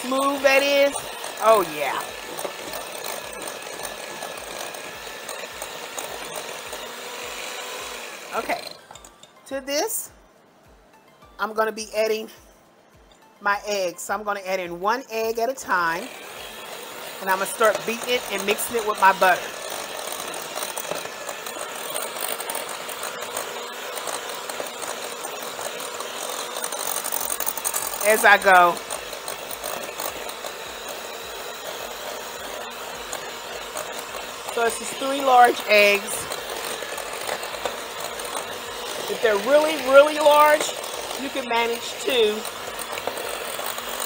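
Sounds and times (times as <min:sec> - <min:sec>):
electric hand mixer running: 0:00.0 - 0:09.4, 0:15.7 - 0:44.0.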